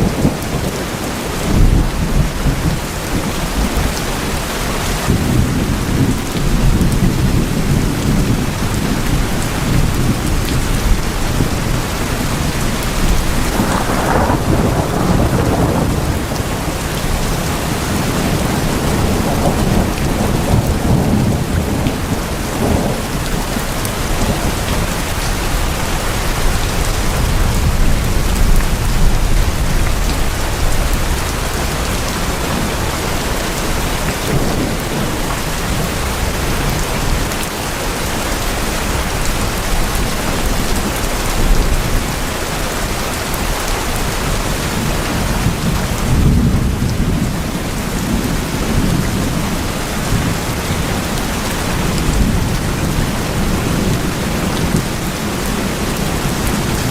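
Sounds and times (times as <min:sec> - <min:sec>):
thunder rumbling: 0:00.0 - 0:37.3, 0:38.0 - 0:56.9
heavy rain on tin roofs: 0:00.0 - 0:56.9.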